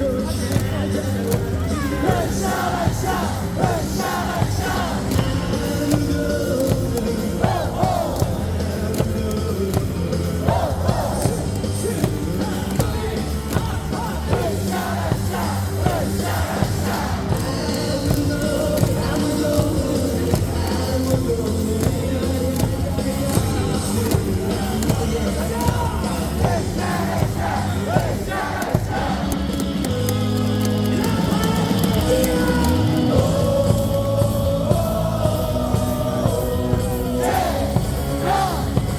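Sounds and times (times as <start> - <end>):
cheer music over loudspeakers: 0.0 - 38.9
crowd singing and chanting: 0.0 - 38.9.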